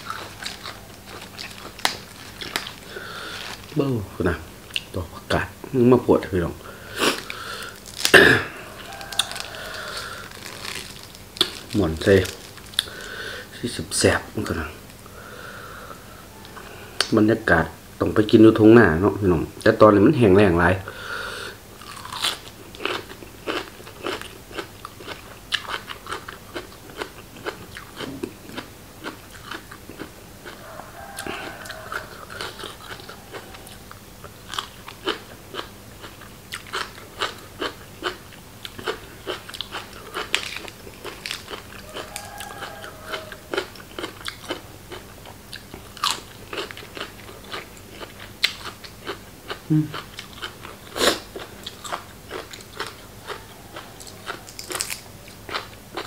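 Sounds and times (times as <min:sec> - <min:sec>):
person chewing crunchy food: 0:00.0 - 0:04.0, 0:06.8 - 0:13.7, 0:21.8 - 0:56.0.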